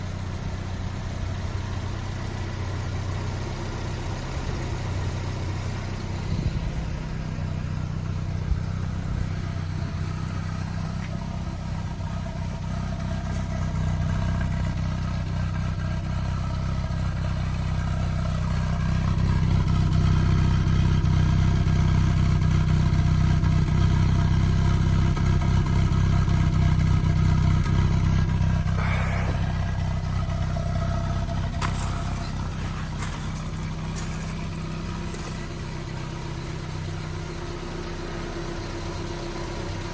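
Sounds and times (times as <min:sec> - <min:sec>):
car engine humming: 0:00.0 - 0:39.9.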